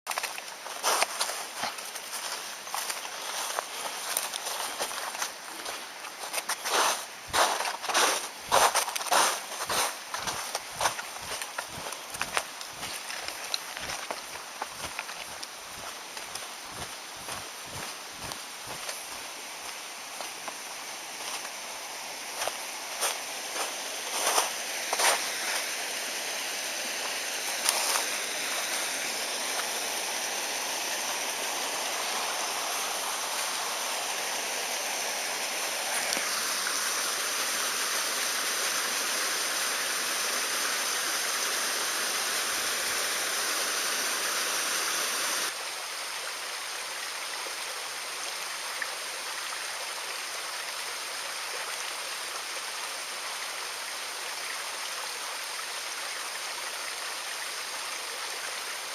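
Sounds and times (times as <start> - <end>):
mountain stream rushing: 0.1 - 58.9.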